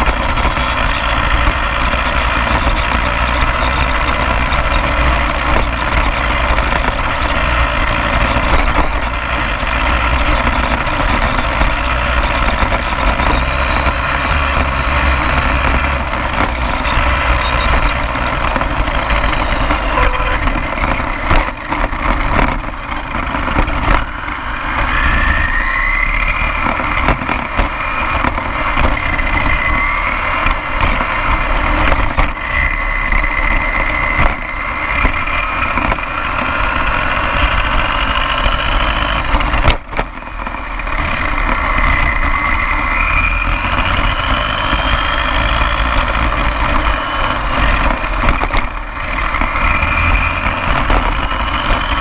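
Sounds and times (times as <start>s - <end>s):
electric motor whining: 0.0s - 52.0s
tyres rumbling on asphalt: 0.0s - 52.0s.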